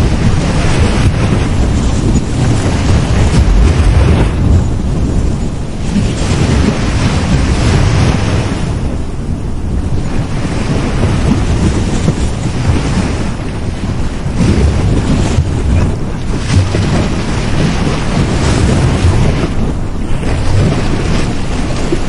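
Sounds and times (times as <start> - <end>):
sea waves breaking on beach: 0.0 - 22.0
wind rumble on microphone: 0.0 - 22.0.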